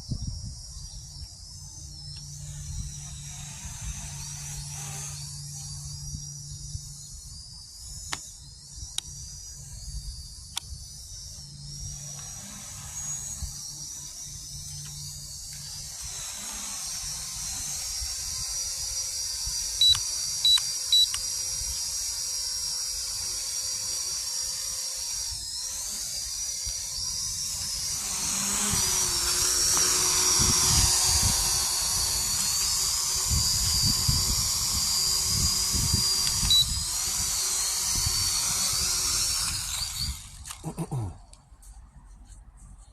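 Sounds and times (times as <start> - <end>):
toy drone motors whining: 0.0 - 42.9.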